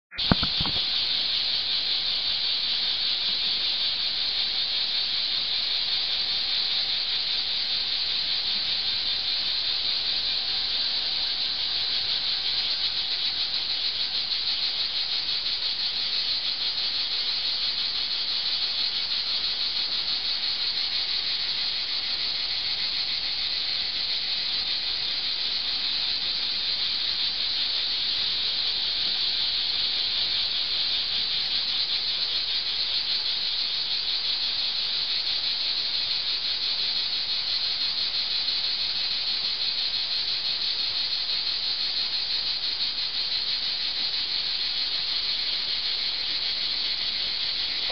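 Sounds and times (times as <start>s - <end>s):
cicadas buzzing: 0.1s - 47.9s.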